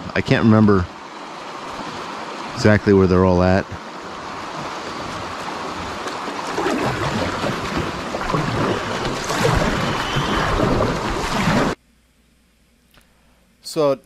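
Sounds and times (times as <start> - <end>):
river water rushing and splashing: 0.1 - 11.8.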